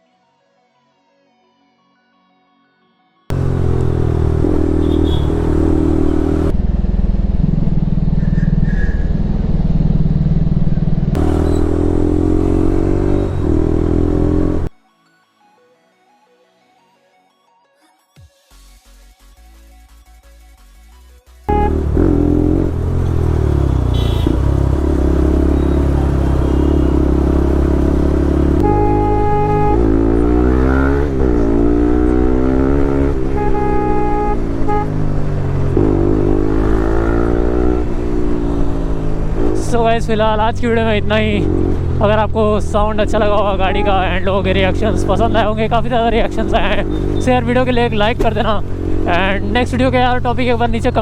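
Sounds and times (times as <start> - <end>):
motorcycle exhaust note: 3.3 - 14.7, 21.5 - 51.0.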